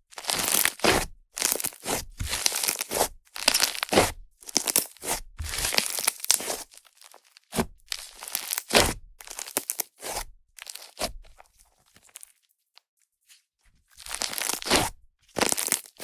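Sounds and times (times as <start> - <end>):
slime squeezed and crackling: 0.2 - 11.1, 14.0 - 16.0.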